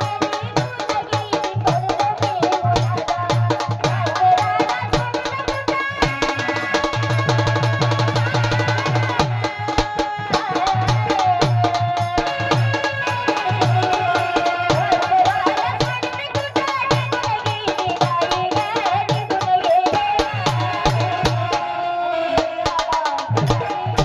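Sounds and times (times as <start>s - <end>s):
song with fast drum beat: 0.0s - 21.8s, 22.4s - 24.0s.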